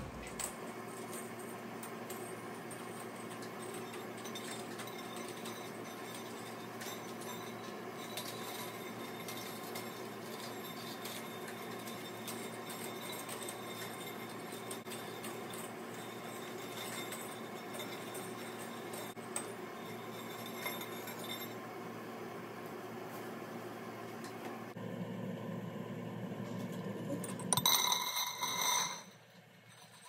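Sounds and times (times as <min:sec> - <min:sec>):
metal coils clinking on brick: 0:00.0 - 0:21.6, 0:27.2 - 0:30.0.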